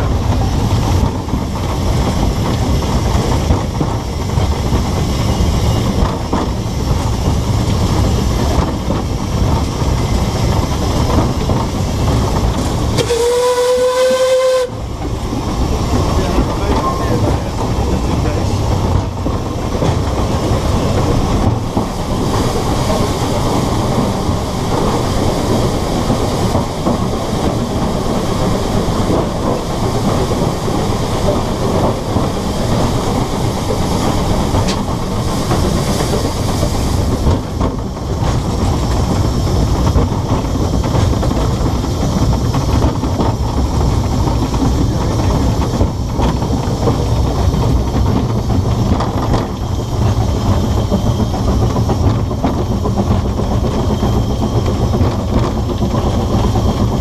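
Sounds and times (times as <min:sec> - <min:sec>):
steam hiss: 0:00.0 - 0:57.0
train wheels on rail: 0:00.0 - 0:57.0.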